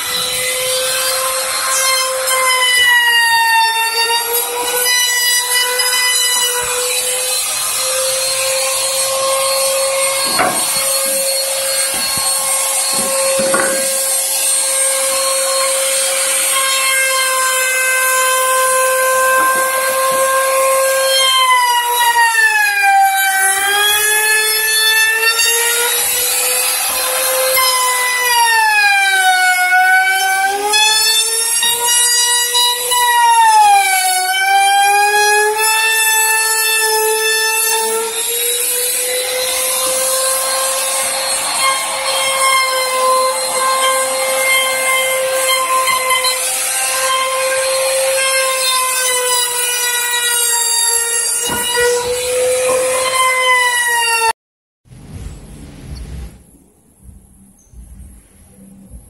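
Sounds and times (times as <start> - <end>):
power tool motor whine on wood: 0.0 - 54.3.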